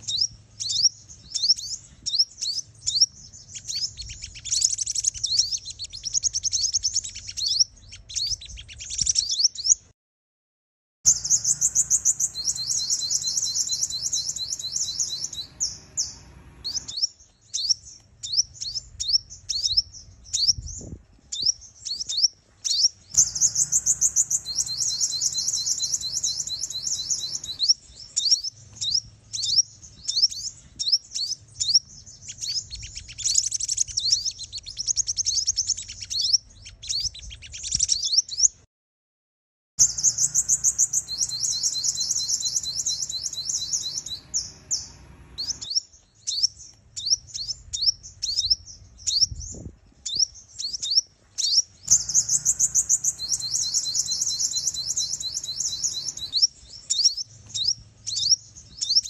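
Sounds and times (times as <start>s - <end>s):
bird chirps and trills: 0.0s - 9.8s, 11.1s - 38.6s, 39.8s - 59.0s.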